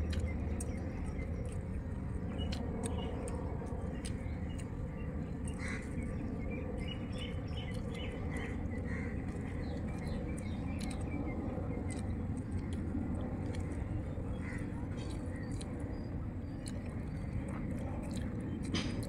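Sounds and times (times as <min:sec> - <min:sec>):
low background rumble: 0:00.0 - 0:19.0
small birds chirping: 0:00.0 - 0:19.0.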